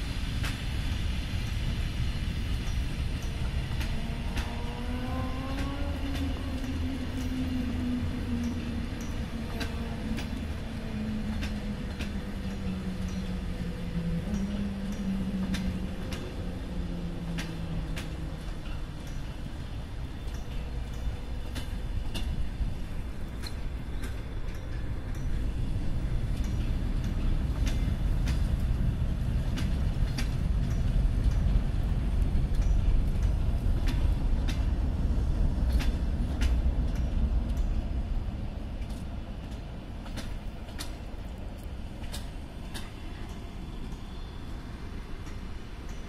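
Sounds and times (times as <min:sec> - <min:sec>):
train wheels rumbling on rail: 0:00.0 - 0:46.0
wheels clicking over rail joints: 0:00.0 - 0:46.0.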